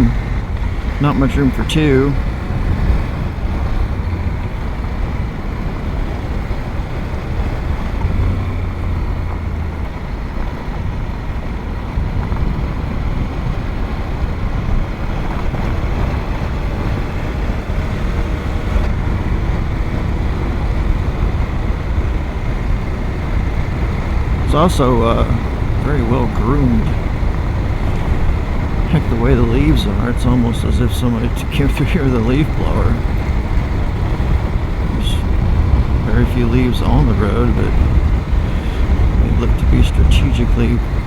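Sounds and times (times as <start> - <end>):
motorcycle engine running: 0.0 - 41.0
tyres on dirt road: 0.0 - 41.0
wind noise: 0.0 - 41.0.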